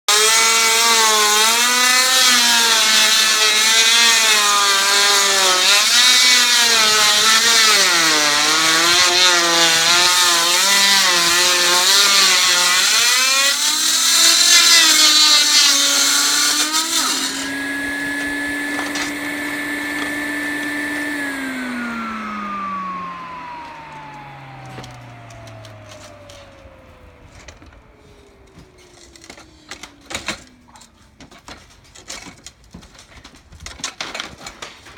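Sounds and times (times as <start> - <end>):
power saw cutting roofing: 0.1 - 34.9.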